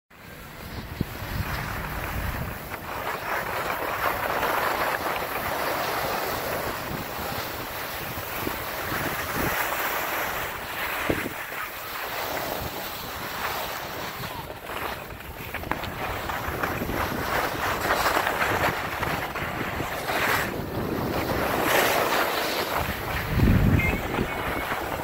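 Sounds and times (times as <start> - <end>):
skis scraping over snow: 0.2 - 25.0
wind buffeting microphone: 0.3 - 25.0.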